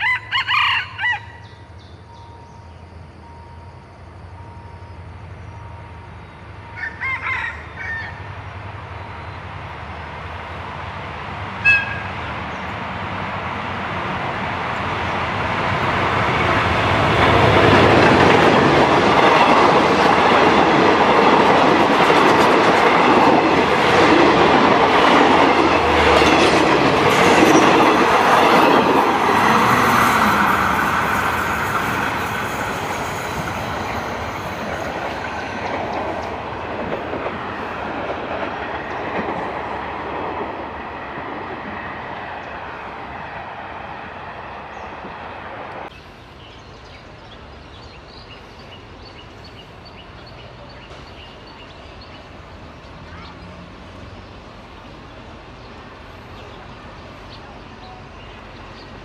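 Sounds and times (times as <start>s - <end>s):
passenger train passing: 0.0s - 59.0s.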